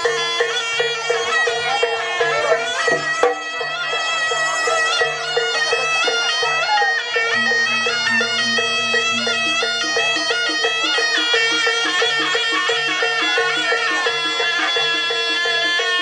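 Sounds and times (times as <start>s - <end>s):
drums and gong chimes: 0.0s - 16.0s
shrill shawm melody: 0.0s - 16.0s.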